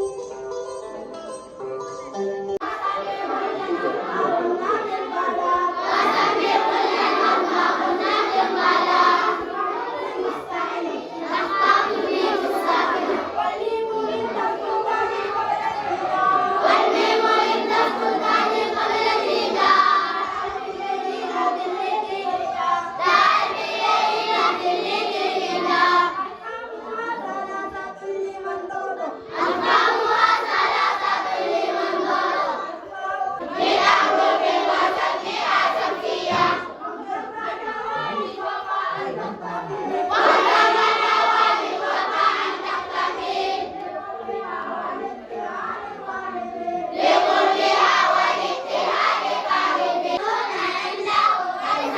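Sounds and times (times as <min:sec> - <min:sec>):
children singing in unison: 0:02.6 - 0:51.9.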